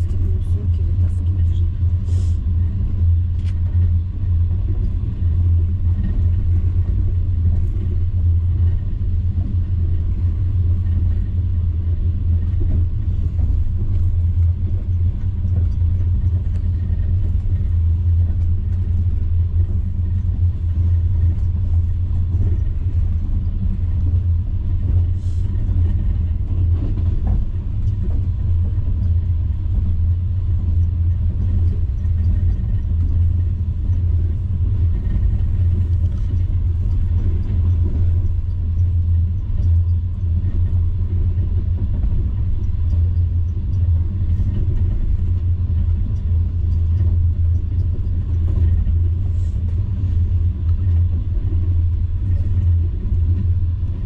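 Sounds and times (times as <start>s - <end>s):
vehicle rumble from inside: 0.0s - 54.0s.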